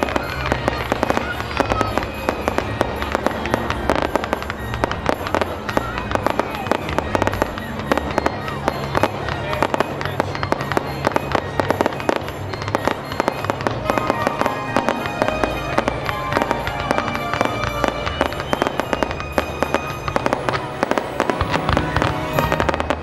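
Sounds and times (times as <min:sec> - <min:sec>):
fireworks cracking and popping: 0:00.0 - 0:23.0
music playing: 0:00.0 - 0:23.0.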